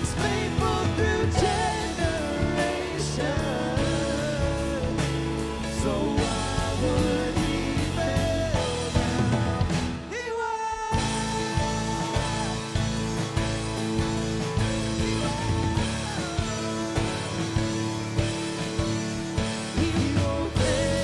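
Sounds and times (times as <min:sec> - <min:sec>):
live band instrumental music: 0:00.0 - 0:21.0.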